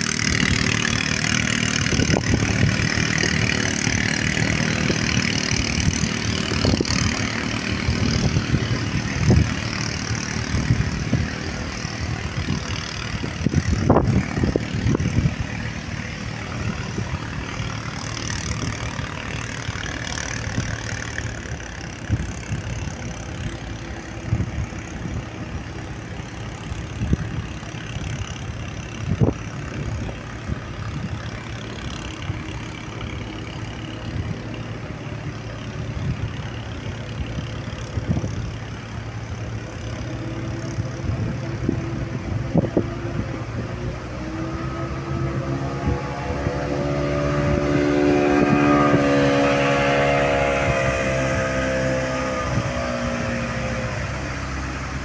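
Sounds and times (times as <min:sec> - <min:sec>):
boat engine running low: 0:00.0 - 0:55.0
motorboat engine drone: 0:00.0 - 0:55.0.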